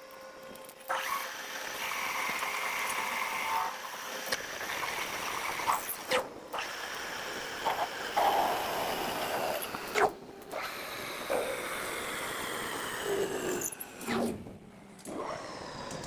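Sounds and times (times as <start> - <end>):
machine tool whining: 0.0 - 16.0.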